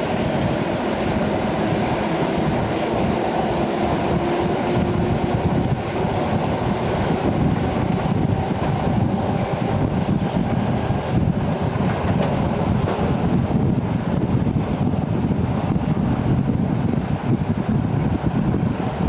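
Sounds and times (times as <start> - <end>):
train car body rumbling: 0.0 - 19.0
train wheels on rails: 0.0 - 19.0.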